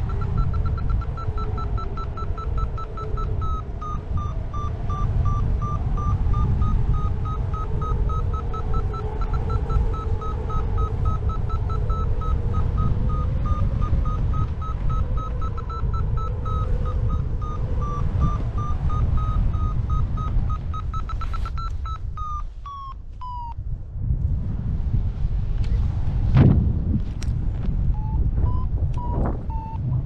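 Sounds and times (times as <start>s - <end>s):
variometer beeping: 0.0s - 23.6s, 27.9s - 30.0s
wind rumble on microphone: 0.0s - 30.0s.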